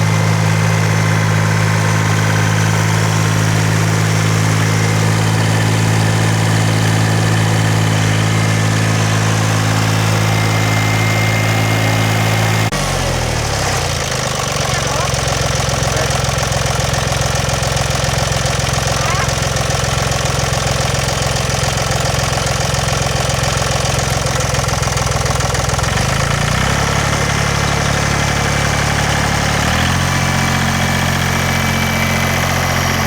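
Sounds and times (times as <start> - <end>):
tilling machine engine running: 0.0 - 33.0.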